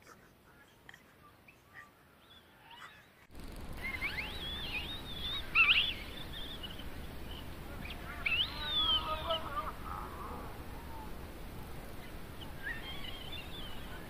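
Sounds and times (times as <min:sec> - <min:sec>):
birds chattering: 0:00.0 - 0:14.0
outdoor background noise: 0:00.0 - 0:14.0
birds whistling: 0:01.5 - 0:11.3, 0:11.9 - 0:14.0.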